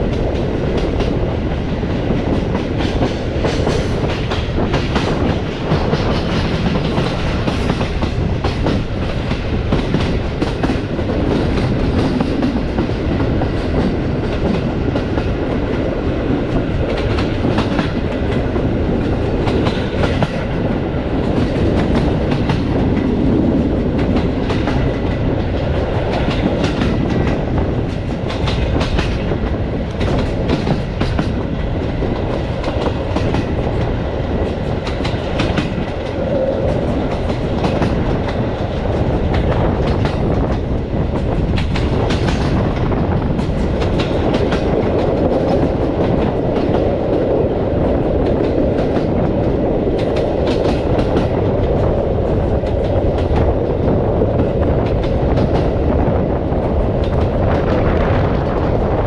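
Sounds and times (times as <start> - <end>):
clicks and knocks of train: 0.0 - 59.0
train wheels rumbling on rails: 0.0 - 59.0.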